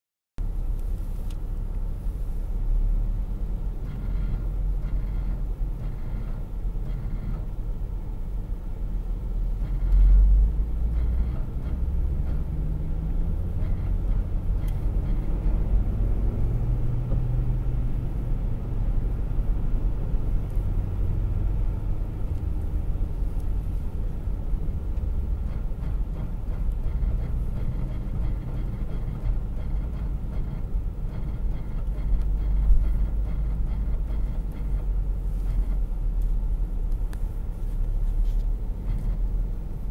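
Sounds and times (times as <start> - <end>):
car engine rumbling: 0.4 - 39.9
strange car noise: 0.4 - 39.9.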